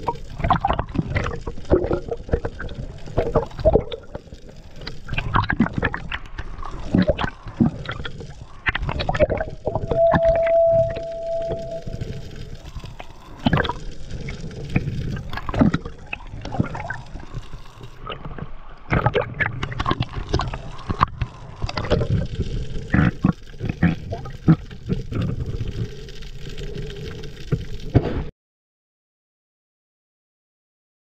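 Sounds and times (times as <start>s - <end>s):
underwater rush and gurgle: 0.0s - 28.3s.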